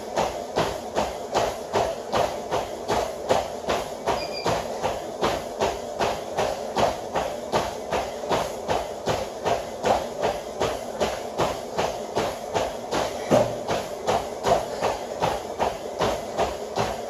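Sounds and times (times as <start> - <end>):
running footfalls on treadmill: 0.0 - 17.0
treadmill belt running: 0.0 - 17.0.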